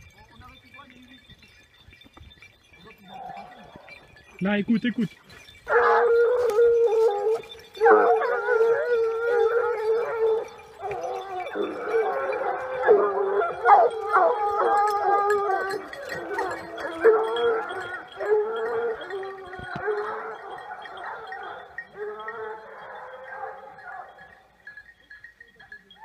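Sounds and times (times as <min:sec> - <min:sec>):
hounds baying: 0:02.8 - 0:26.0.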